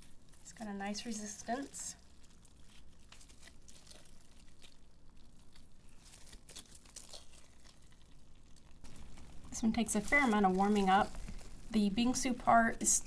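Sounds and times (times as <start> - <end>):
slime crackling as kneaded by hand: 0.0 - 13.0.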